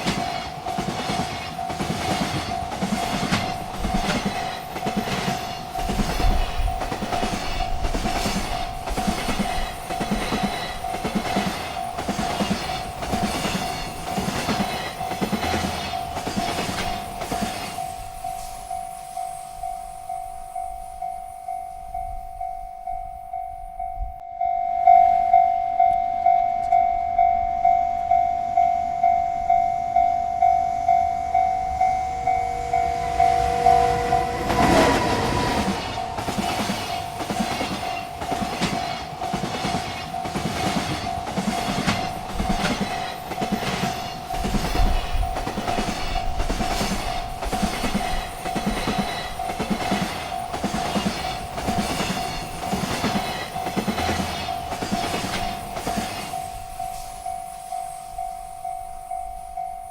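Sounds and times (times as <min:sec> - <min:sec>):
freight train wheels clacking: 0:00.0 - 0:24.0, 0:25.4 - 0:59.9
railroad crossing bell ringing: 0:00.0 - 0:59.9.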